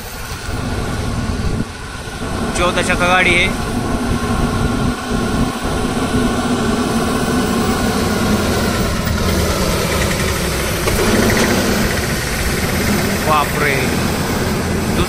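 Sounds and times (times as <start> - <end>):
diesel truck engine labouring: 0.0 - 15.0.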